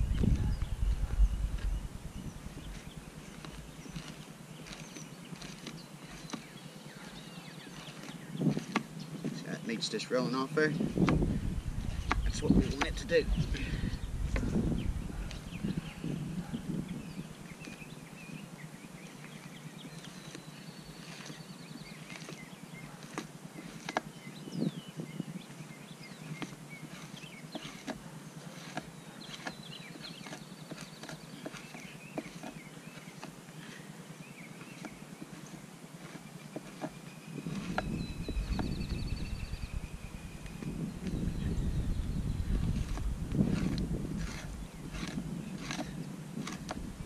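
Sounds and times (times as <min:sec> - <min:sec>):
knife scraping hide: 0:00.2 - 0:18.0, 0:19.2 - 0:24.8, 0:25.6 - 0:33.9, 0:34.5 - 0:47.0.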